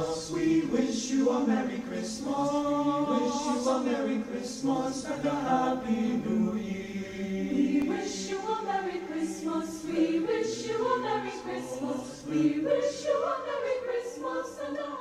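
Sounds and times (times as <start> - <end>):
choir singing a carol: 0.0 - 15.0.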